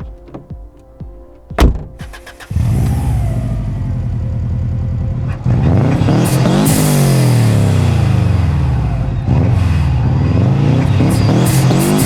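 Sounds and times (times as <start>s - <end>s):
car engine revving: 1.5s - 12.0s.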